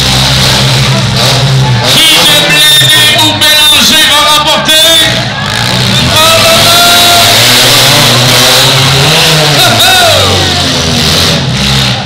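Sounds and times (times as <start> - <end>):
car engines revving hard: 0.0 - 12.0
steady din of noise: 0.0 - 12.0.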